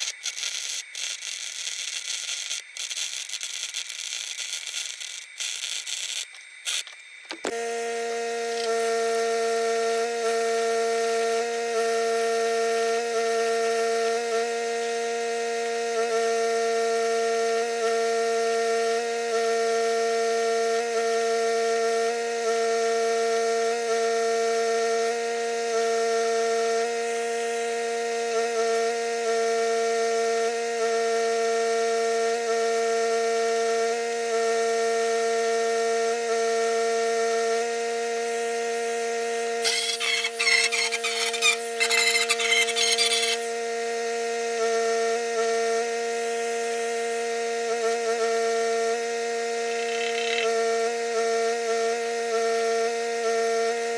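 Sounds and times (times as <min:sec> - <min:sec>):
electrical mains hum: 0:00.0 - 0:53.9.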